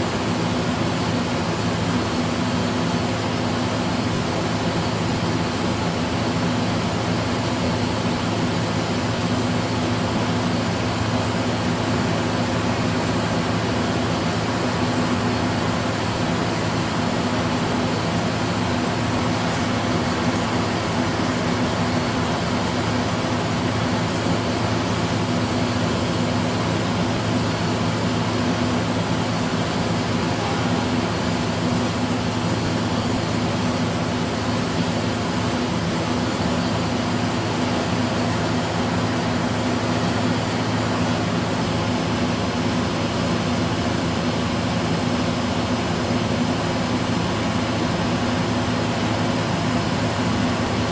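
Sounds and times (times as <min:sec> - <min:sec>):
machine hum: 0:00.0 - 0:50.9.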